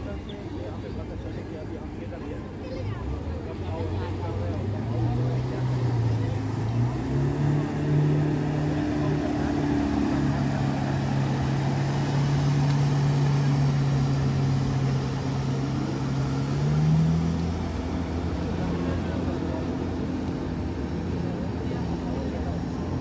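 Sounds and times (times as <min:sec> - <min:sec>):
jet ski engine running: 0:00.0 - 0:23.0.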